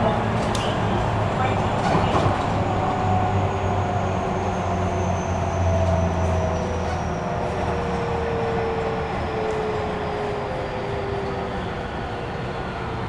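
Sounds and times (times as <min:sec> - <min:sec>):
rumble of rails and wheels: 0:00.0 - 0:13.0.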